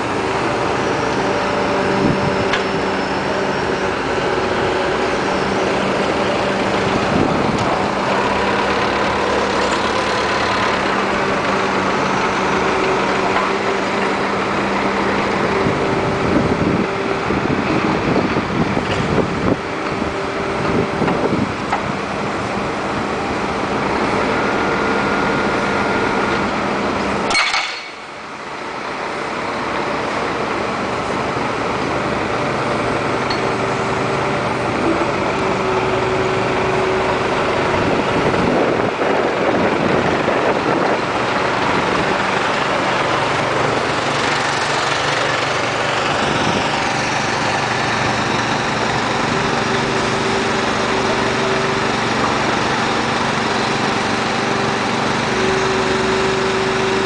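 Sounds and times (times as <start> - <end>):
excavator diesel engine running: 0.0 - 57.0
hydraulic whine: 0.0 - 57.0.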